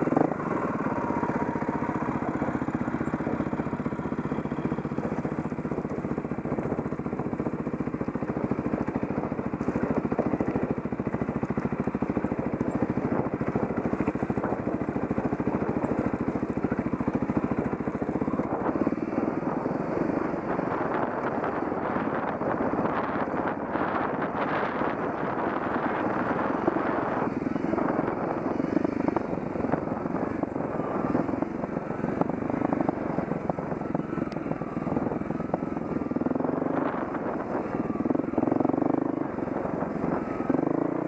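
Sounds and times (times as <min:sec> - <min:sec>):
dirt bike engine running: 0:00.0 - 0:41.0.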